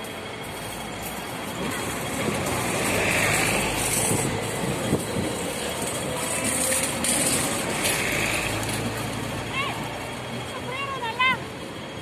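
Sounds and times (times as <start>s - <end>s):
city street traffic: 0.0s - 12.0s
minibus driving past: 0.0s - 12.0s.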